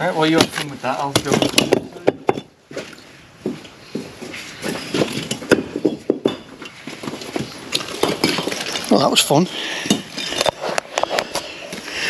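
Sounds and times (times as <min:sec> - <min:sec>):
bricks knocking and clattering: 0:00.2 - 0:11.4
footsteps on rubble: 0:00.3 - 0:11.9.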